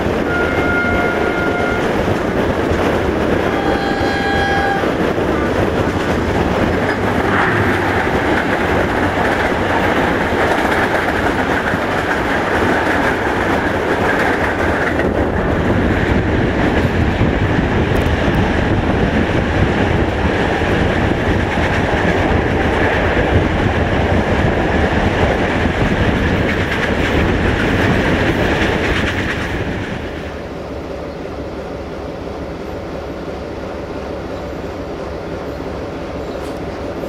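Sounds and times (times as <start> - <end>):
train wheels clickety-clack: 0.0 - 30.4, 34.3 - 37.0
passing train rushing by: 0.0 - 37.0.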